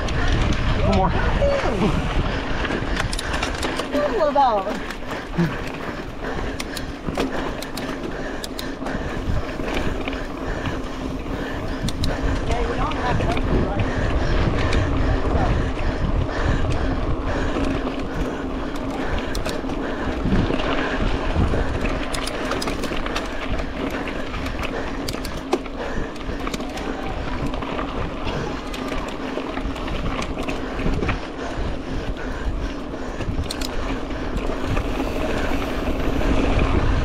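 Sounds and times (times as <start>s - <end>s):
wind on microphone: 0.0s - 7.1s, 8.2s - 37.0s
bike clicks and rattles: 0.0s - 37.0s
bike tyre and drivetrain noise: 0.0s - 37.0s.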